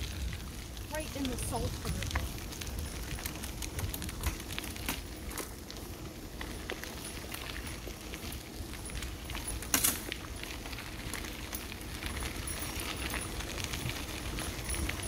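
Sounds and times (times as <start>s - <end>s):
bicycle tyres rumbling on gravel: 0.0s - 15.0s
bike clattering: 0.0s - 15.0s
bike rattles and clicks: 0.0s - 15.0s.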